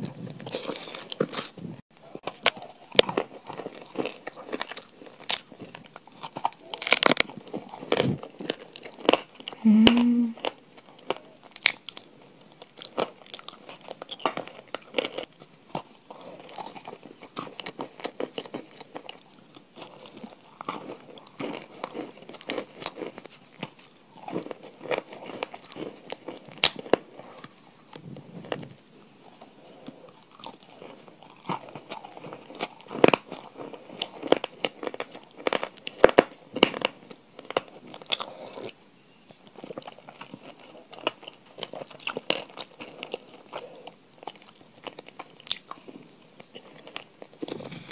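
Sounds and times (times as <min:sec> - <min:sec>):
crunchy chewing: 0:00.0 - 0:09.6, 0:10.4 - 0:47.9.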